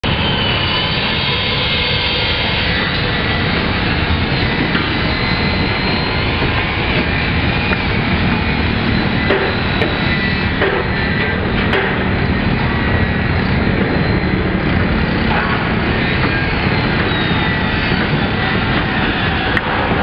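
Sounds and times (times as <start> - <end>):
high whine: 0.0 - 20.0
machinery drone: 0.0 - 20.0.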